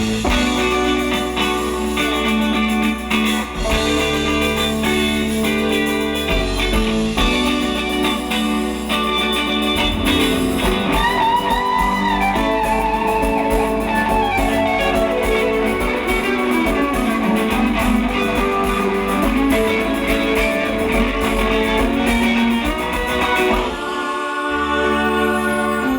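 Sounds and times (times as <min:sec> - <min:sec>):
live rock band playing: 0:00.0 - 0:24.1
electric guitar lead line: 0:00.0 - 0:25.0.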